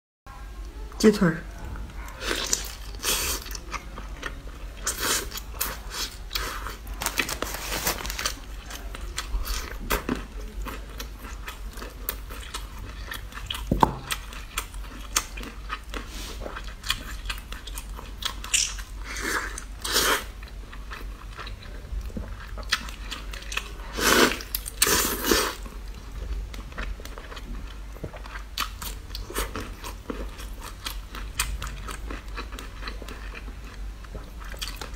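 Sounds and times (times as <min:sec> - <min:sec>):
person chewing chicken: 0:02.0 - 0:34.9.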